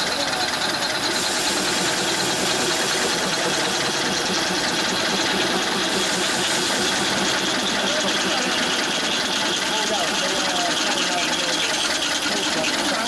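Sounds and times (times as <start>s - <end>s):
drilling machine drilling metal: 0.0s - 13.0s.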